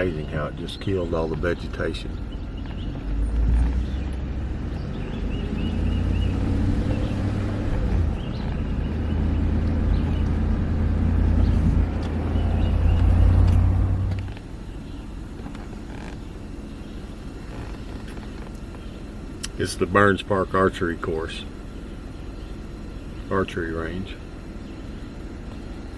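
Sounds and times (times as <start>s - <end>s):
vehicle engine and road drone: 0.0s - 25.9s.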